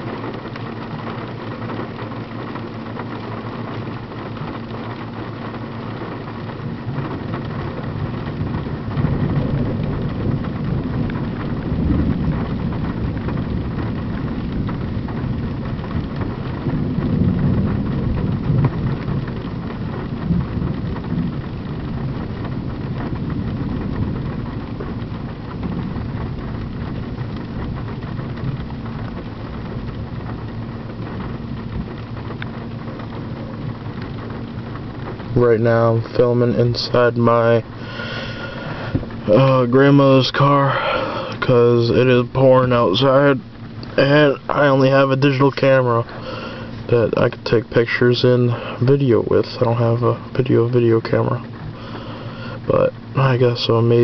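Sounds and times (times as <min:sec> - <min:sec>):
heavy rain drumming on a car: 0:00.0 - 0:54.0
steady low hum: 0:00.0 - 0:54.0
thunder rolling: 0:05.6 - 0:51.8.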